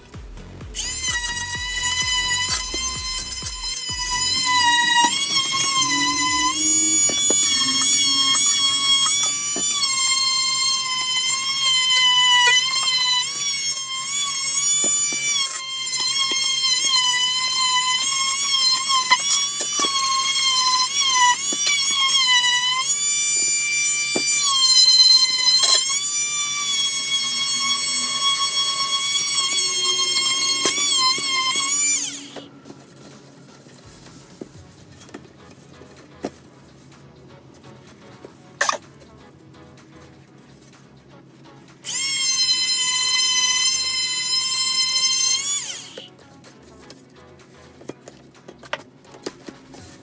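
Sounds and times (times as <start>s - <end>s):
rotary tool whining: 0.0s - 39.2s, 41.7s - 50.0s.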